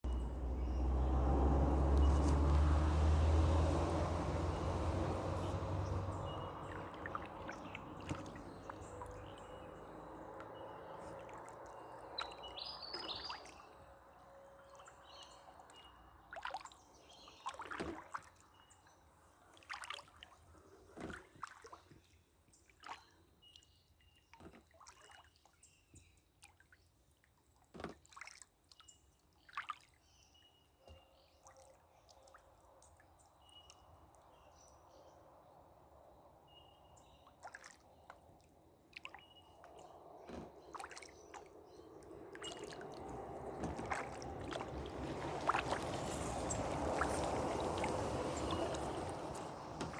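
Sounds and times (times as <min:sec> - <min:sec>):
paddle drips and splashes: 0:00.0 - 0:49.9.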